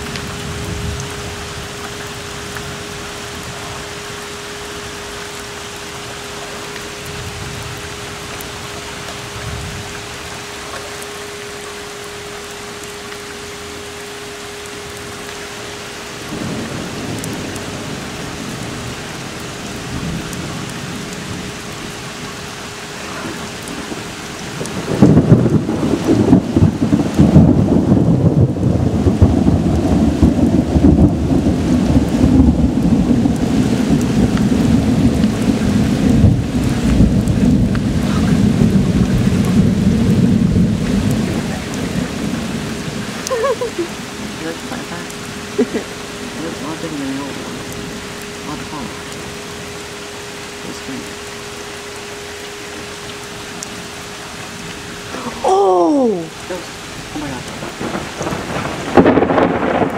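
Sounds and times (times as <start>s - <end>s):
thunder rumble: 0.0s - 11.1s, 16.2s - 50.4s, 56.4s - 59.9s
heavy rain falling: 0.0s - 59.9s.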